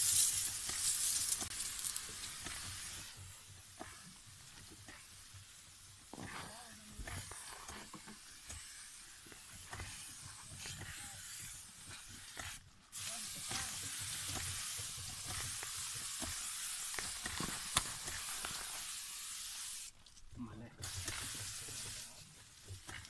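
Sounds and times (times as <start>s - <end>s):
sprayer nozzle hissing: 0.0s - 20.0s, 20.8s - 23.0s.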